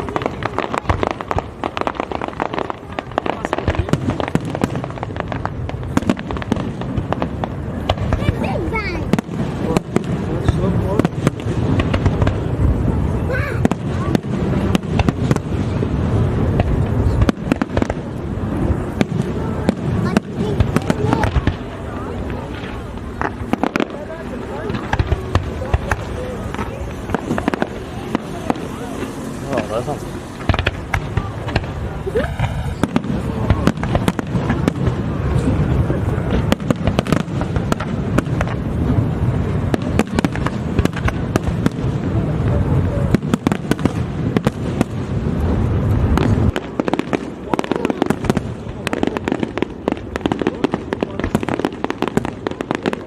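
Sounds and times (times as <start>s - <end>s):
fireworks cracks and pops: 0.0s - 53.0s
fireworks rumbling bursts: 0.0s - 53.0s.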